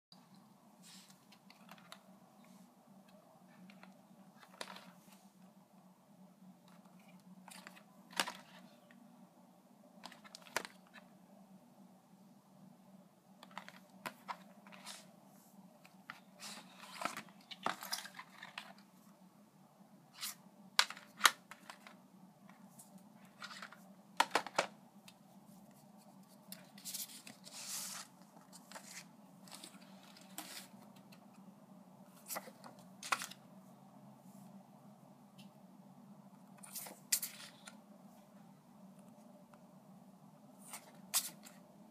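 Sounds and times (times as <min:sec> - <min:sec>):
faint low hum: 0:00.1 - 0:41.9.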